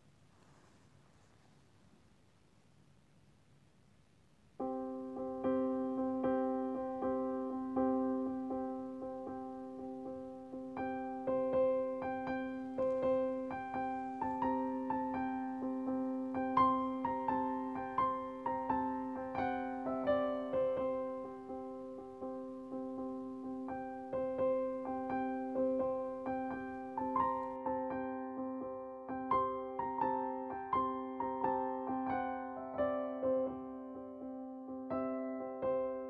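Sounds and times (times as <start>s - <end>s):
gentle solo piano melody: 4.6s - 36.0s.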